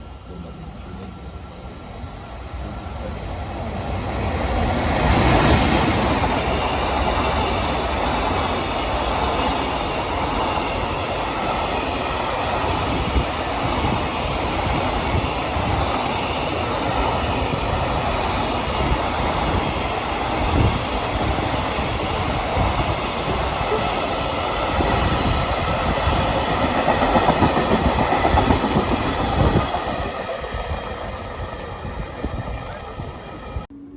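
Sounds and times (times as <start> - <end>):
train rumbling past: 0.0 - 33.9.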